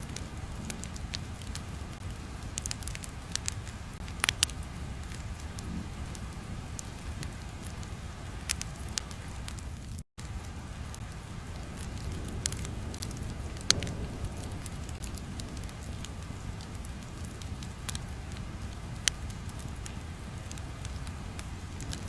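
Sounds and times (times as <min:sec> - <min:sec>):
fire low rumble: 0:00.0 - 0:22.0
fire sharp pops: 0:00.0 - 0:22.0.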